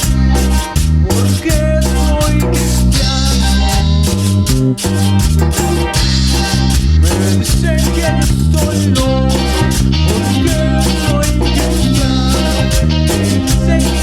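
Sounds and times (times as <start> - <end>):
bajo quinto: 0.0 - 14.0
drums: 0.0 - 14.0
electric bass: 0.0 - 14.0
melodic lead line: 0.0 - 14.0.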